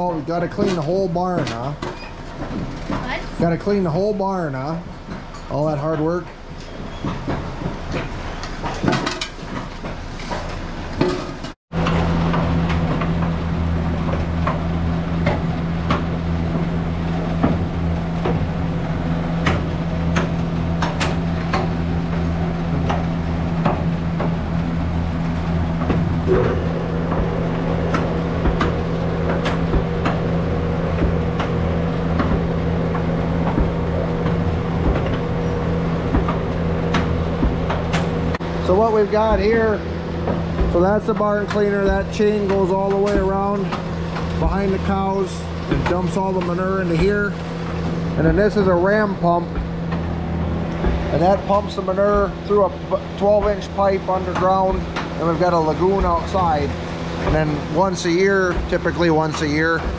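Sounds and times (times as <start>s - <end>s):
drive unit humming: 11.7s - 59.9s.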